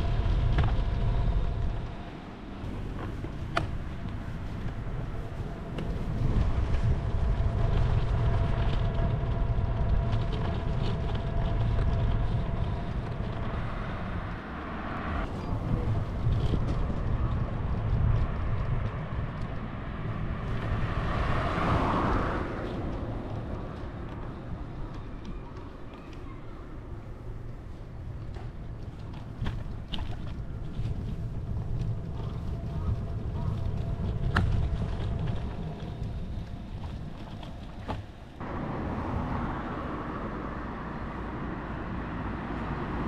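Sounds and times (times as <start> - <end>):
wind and road noise rumble: 0.0 - 43.0.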